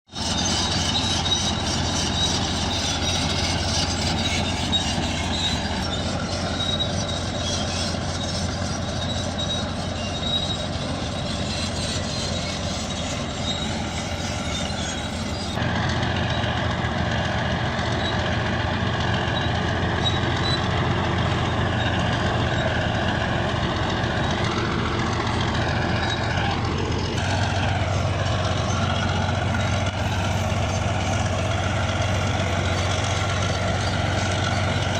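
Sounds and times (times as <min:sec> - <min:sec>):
diesel engine running: 0:00.1 - 0:34.9
steel tracks clattering: 0:00.2 - 0:34.9.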